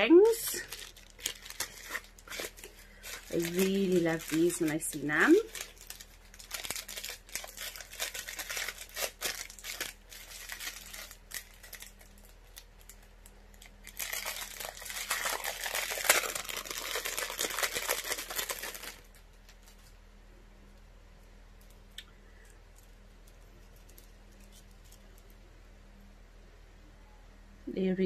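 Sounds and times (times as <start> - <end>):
packaging rustling and crackling: 0.0 - 20.0, 22.4 - 25.4.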